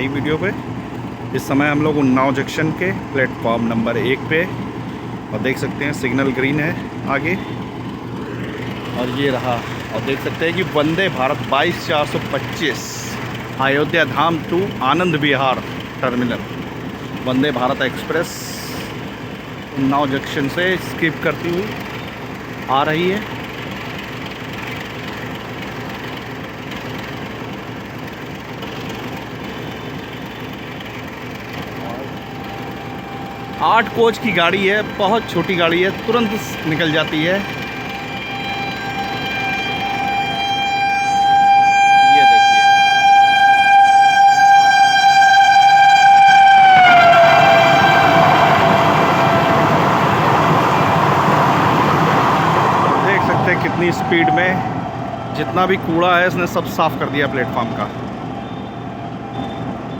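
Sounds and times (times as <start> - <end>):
electric train rumbling past: 0.0 - 59.9.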